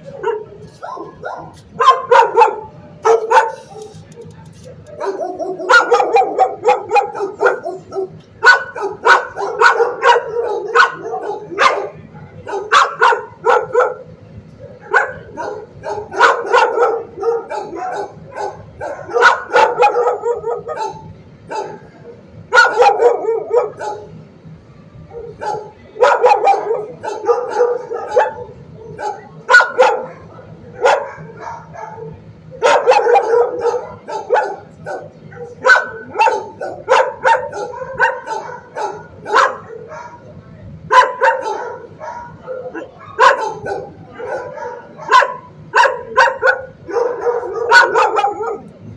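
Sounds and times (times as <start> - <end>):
dogs barking: 0.0 - 24.2, 25.1 - 48.8.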